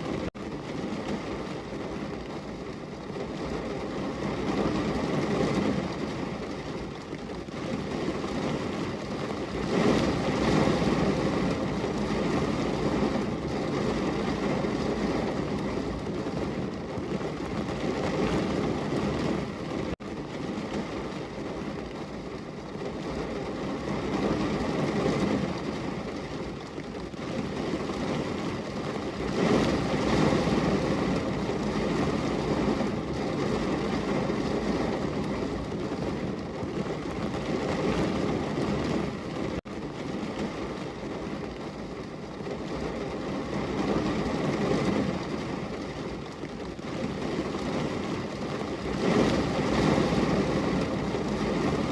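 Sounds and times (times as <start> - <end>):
heavy rain on window glass: 0.0 - 51.9.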